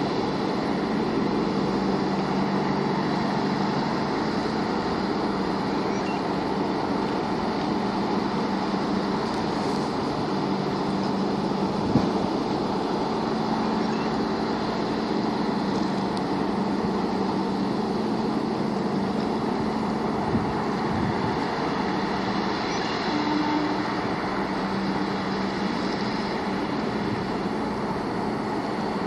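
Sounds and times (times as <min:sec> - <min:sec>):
low ship engine hum: 0:00.0 - 0:29.0
wind and water noise: 0:00.0 - 0:29.0.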